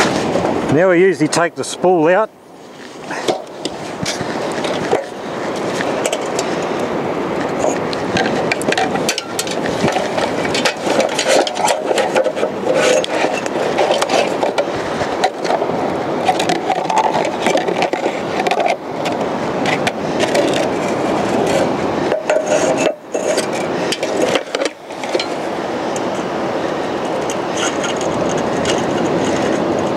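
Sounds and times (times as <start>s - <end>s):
surf and wind: 0.0s - 29.9s.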